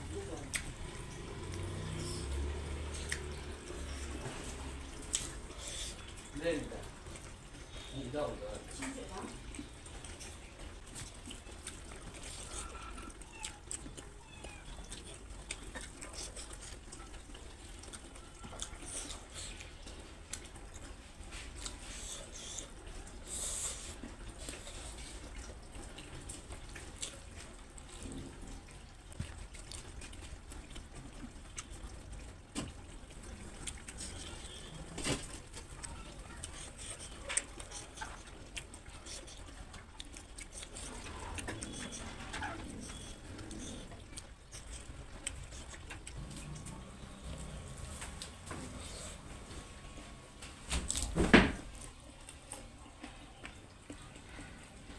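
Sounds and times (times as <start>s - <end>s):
wet chewing and lip-smacking: 0.0s - 54.9s.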